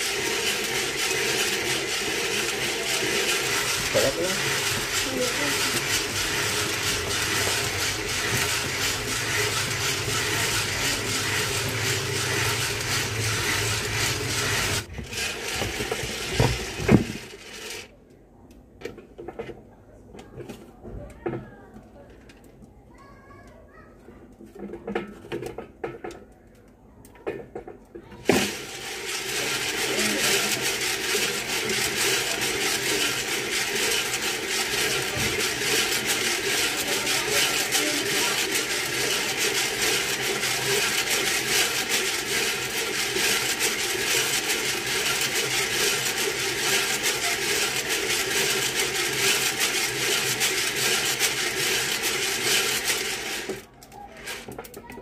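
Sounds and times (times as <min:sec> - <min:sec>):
coffee beans rattling in drum roaster: 0:00.0 - 0:17.9, 0:27.4 - 0:55.0.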